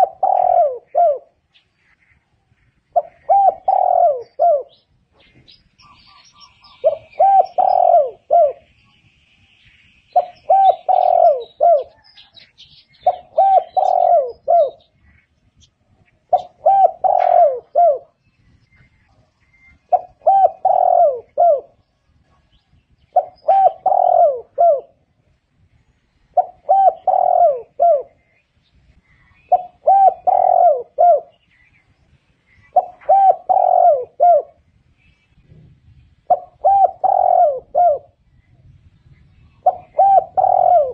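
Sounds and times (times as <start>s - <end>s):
dove cooing: 0.0s - 1.9s, 2.8s - 8.8s, 10.1s - 15.2s, 15.8s - 25.3s, 26.3s - 28.4s, 29.0s - 31.8s, 32.5s - 34.7s, 36.2s - 38.2s, 39.4s - 40.9s
bird chirping: 0.0s - 40.9s.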